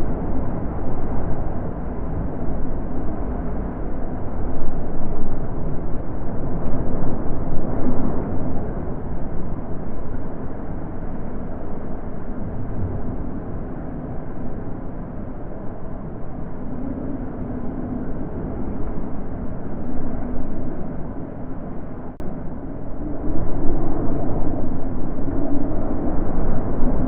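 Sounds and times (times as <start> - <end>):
wind blowing in gusts: 0.0 - 27.0.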